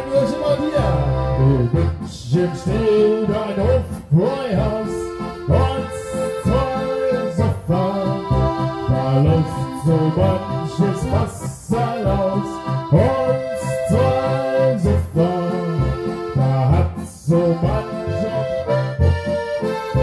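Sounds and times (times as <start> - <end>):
button accordion playing: 0.0 - 20.0.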